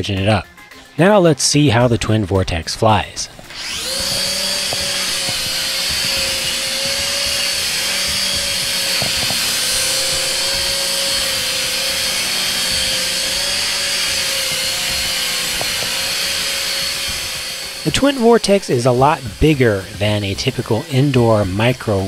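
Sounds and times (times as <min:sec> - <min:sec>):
toy helicopter motors whining: 0:03.2 - 0:22.0.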